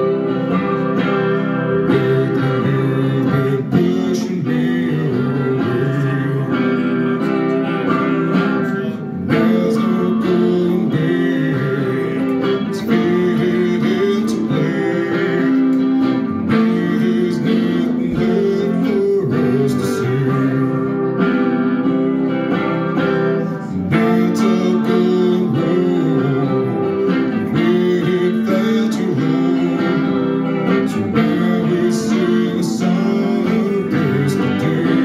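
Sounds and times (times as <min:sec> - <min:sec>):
electric guitar strumming: 0:00.0 - 0:35.0
man singing: 0:00.0 - 0:35.0.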